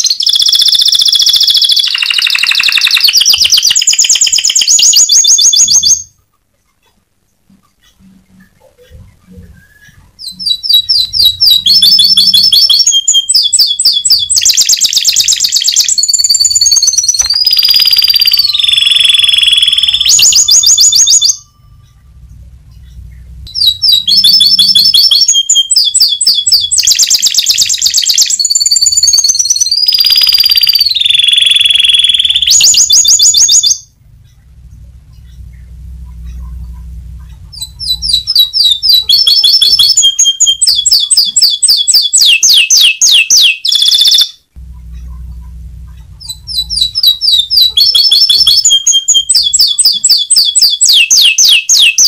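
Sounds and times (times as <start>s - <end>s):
canary singing trills: 0.0s - 52.0s.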